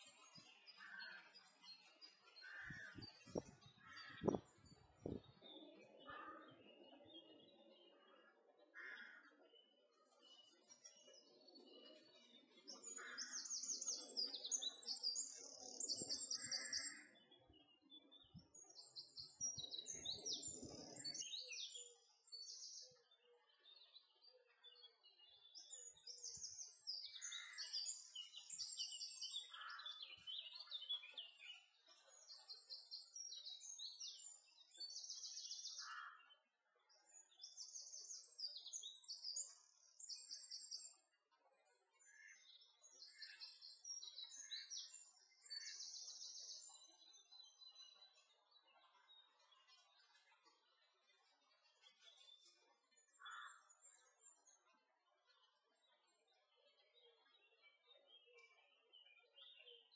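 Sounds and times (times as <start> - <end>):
songbirds singing trilled phrases: 0.0 - 41.2, 41.8 - 59.9.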